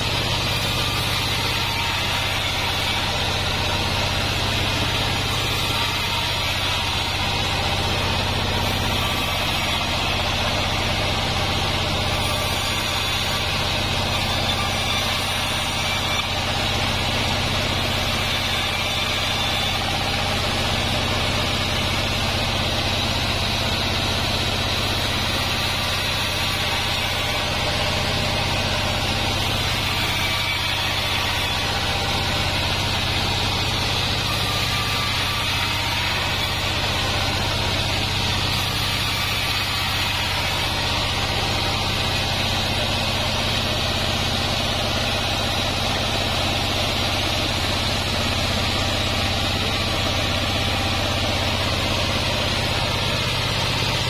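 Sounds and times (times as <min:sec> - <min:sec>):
band sawmill sawing wood: 0:00.0 - 0:54.0.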